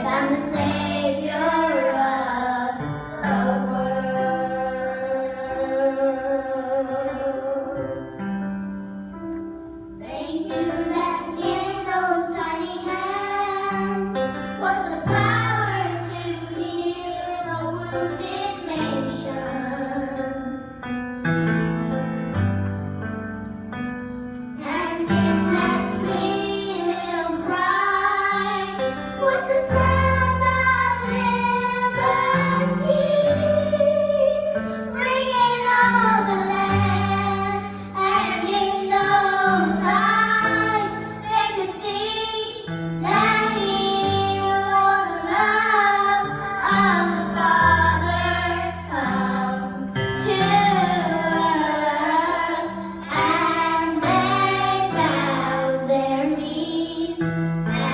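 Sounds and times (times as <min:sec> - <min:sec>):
child singing: 0:00.0 - 0:07.8, 0:10.0 - 0:20.6, 0:24.6 - 0:57.9
piano accompaniment: 0:00.0 - 0:57.9.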